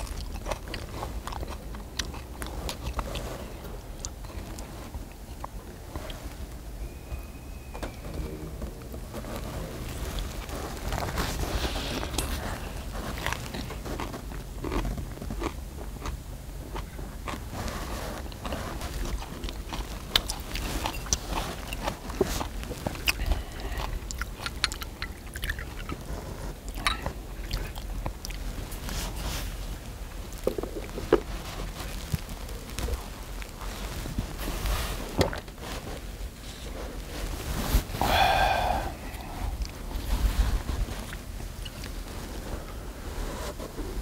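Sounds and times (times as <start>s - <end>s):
chewing and crunching lettuce: 0.0s - 7.0s, 8.6s - 44.0s.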